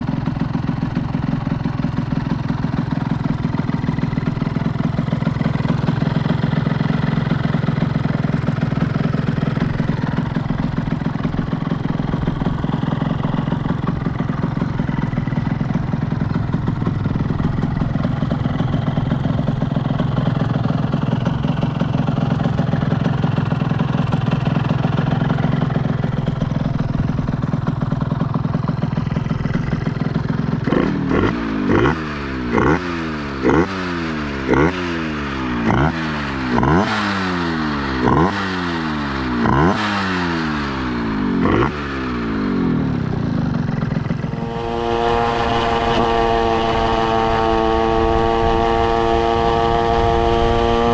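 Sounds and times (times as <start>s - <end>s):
two-stroke moped engine running: 0.0s - 50.9s.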